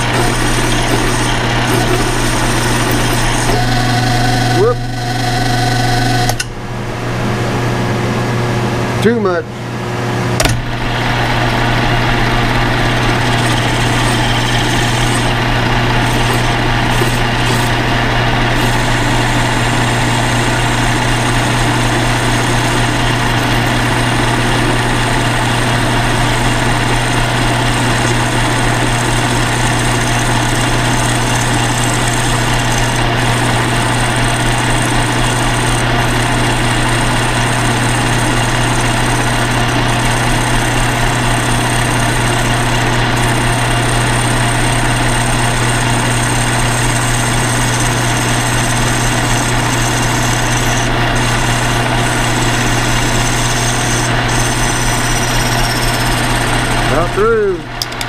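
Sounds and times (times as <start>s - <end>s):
lathe tool cutting metal: 0.0s - 6.4s, 10.7s - 57.9s
bench lathe humming: 0.0s - 7.4s, 10.2s - 58.0s.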